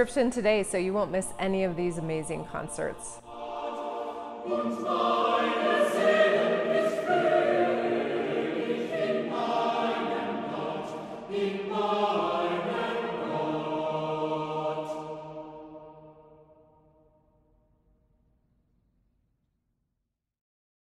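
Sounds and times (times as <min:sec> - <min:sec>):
choir singing sustained chords: 0:00.0 - 0:17.2.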